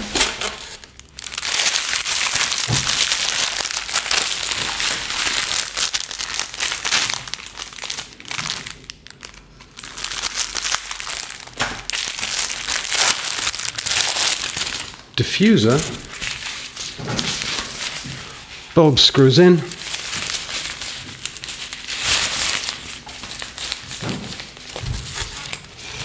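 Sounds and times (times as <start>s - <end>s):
plastic bag crinkling: 0.0s - 18.6s, 19.2s - 26.0s.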